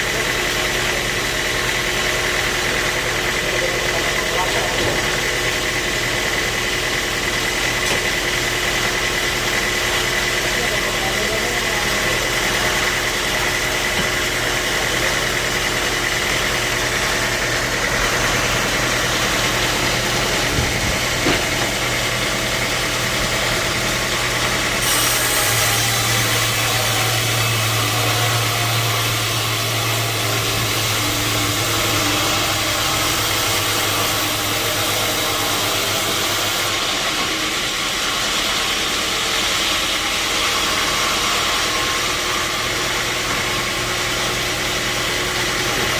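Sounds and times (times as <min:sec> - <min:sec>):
sawmill machinery humming: 0:00.0 - 0:45.9.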